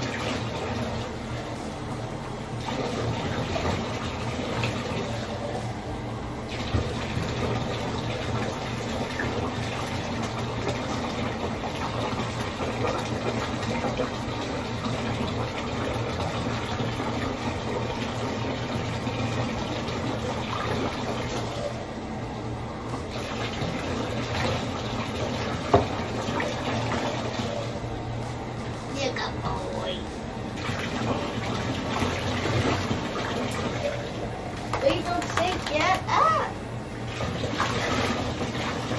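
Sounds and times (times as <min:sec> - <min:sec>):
water running in a bathtub: 0:00.0 - 0:38.9.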